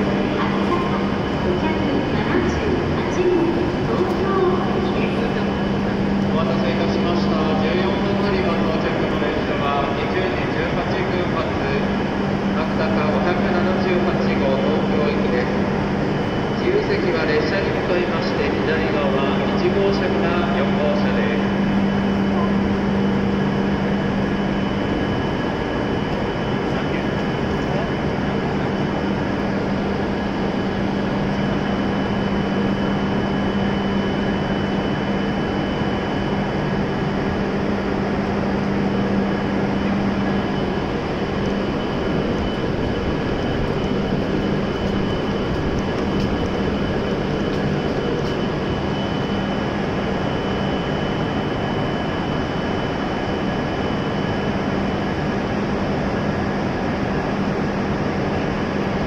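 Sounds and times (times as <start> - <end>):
steady noise: 0.0 - 52.7
high-pitched whine: 0.0 - 59.0
train low hum: 0.0 - 59.0.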